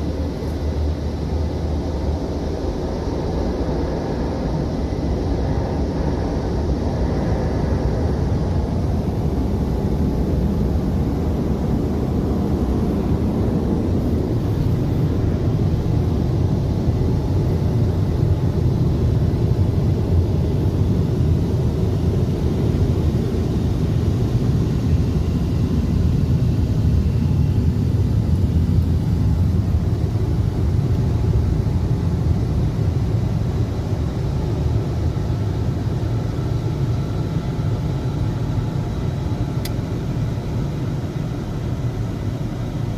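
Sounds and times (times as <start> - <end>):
muffled car wash roar: 0.0 - 42.9.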